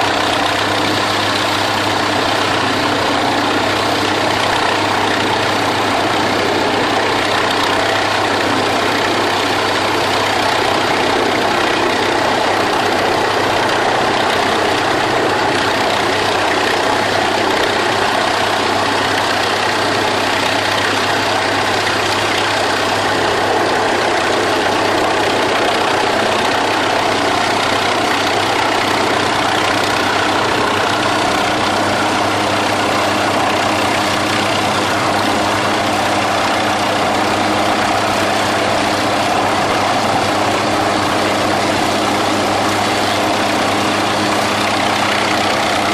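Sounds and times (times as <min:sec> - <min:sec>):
helicopter turbine and rotor drone: 0:00.0 - 0:45.9.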